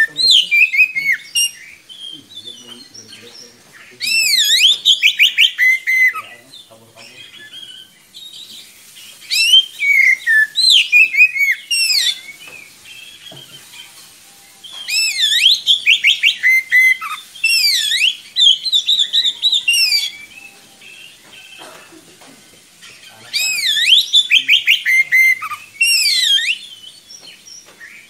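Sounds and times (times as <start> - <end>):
bird singing whistles and trills: 0.0 - 21.7, 22.4 - 28.0.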